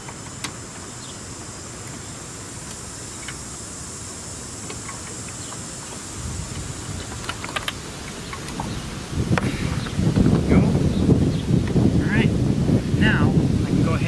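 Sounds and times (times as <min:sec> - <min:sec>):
background rumble: 0:00.0 - 0:14.0.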